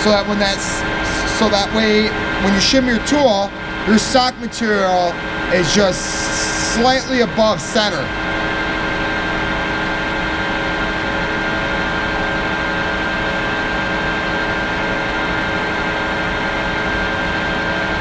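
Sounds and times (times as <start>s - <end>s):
metal lathe running: 0.0s - 18.0s.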